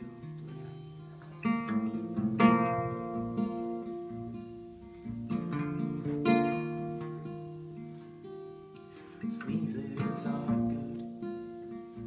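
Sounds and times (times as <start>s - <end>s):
acoustic guitar chords strummed: 0.0s - 12.0s.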